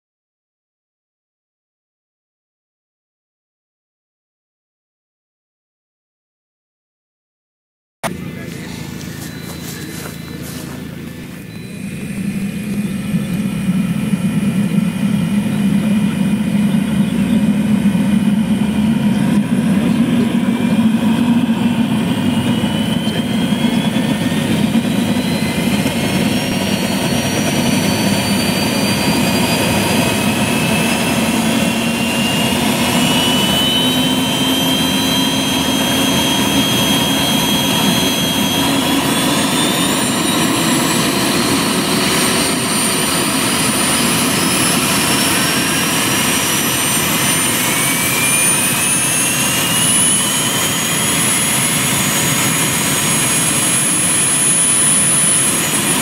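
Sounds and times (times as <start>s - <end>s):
model helicopter rotors whining: 8.0s - 56.0s.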